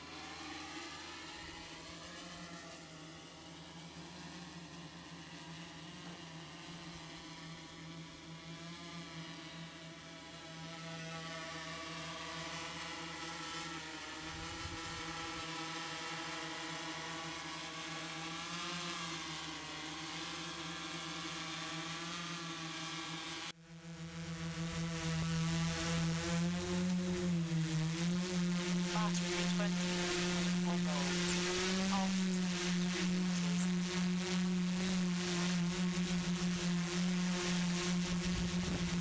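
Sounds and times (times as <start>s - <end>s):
drone motors and propellers humming: 0.0s - 39.0s.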